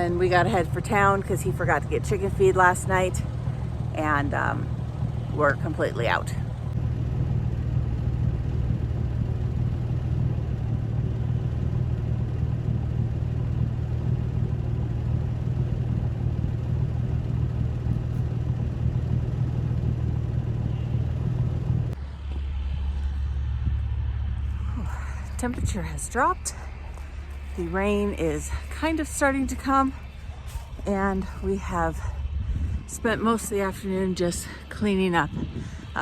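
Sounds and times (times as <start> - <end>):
car driving rumble: 0.0 - 36.0.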